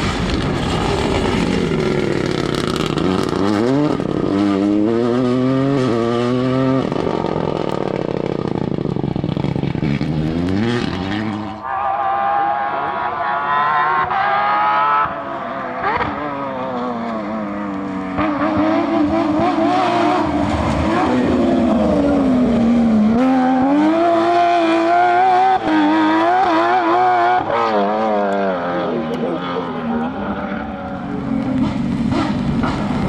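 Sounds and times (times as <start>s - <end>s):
rally car engine at full throttle: 0.0s - 33.0s.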